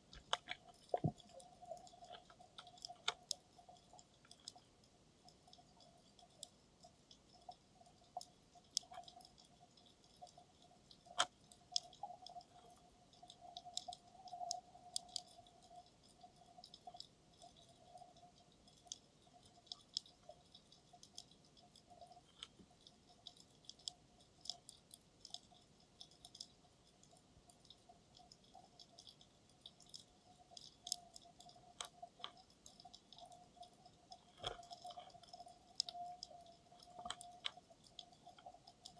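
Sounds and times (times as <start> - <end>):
faint steady hum: 0.0 - 38.9
underwater clicks: 0.1 - 4.7, 5.3 - 38.9.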